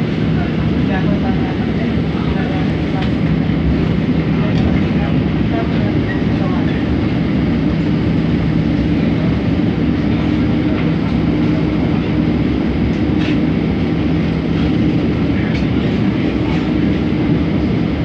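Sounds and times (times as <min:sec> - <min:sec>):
monorail train running rumble: 0:00.0 - 0:18.0.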